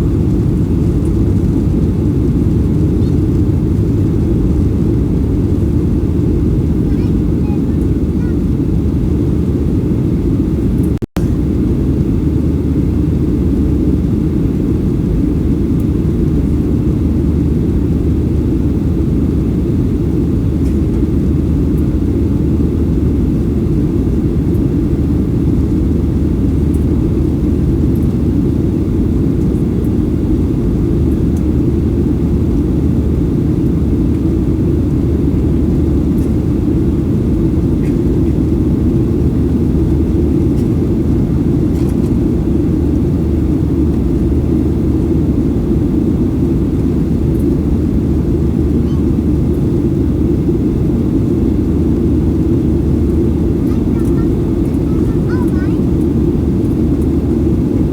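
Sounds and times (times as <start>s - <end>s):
jet engine rumble in cabin: 0.0s - 57.9s.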